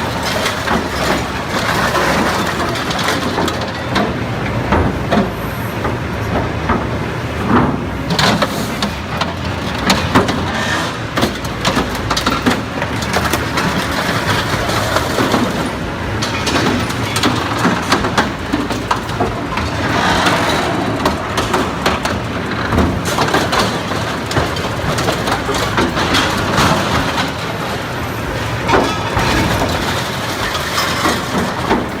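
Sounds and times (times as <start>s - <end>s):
cracking and crushing noises: 0.0s - 4.2s, 6.3s - 32.0s
heavy machinery engine running: 0.0s - 32.0s.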